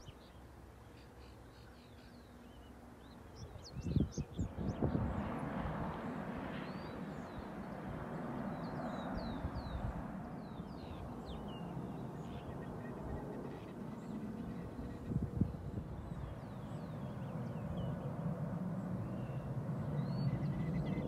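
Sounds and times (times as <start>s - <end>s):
small birds chirping: 0.0s - 5.3s, 6.6s - 18.2s, 18.8s - 21.0s.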